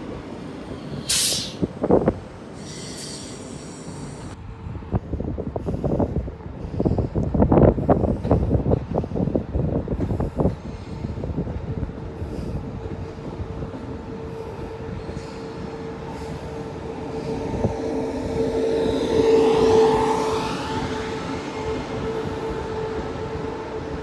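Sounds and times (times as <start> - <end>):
train approaching with whine: 0.0 - 24.0.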